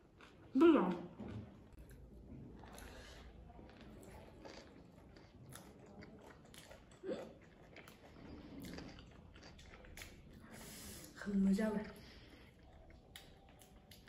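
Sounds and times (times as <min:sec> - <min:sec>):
chewing and biting food: 0:00.0 - 0:10.4, 0:11.8 - 0:14.0.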